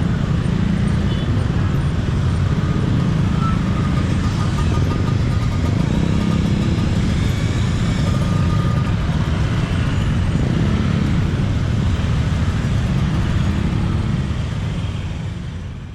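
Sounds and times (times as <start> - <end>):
road traffic rumble: 0.0 - 15.9.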